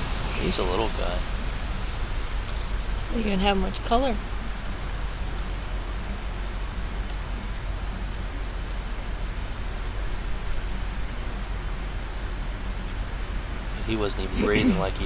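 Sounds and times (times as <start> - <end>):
crickets trilling: 0.0 - 15.0
low background rumble: 0.0 - 15.0.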